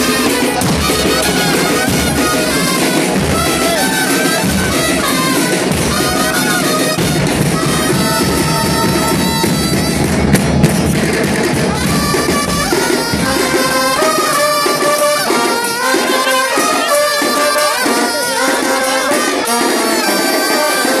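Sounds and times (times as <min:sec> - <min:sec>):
band playing: 0:00.0 - 0:21.0
drums and percussion: 0:00.0 - 0:21.0.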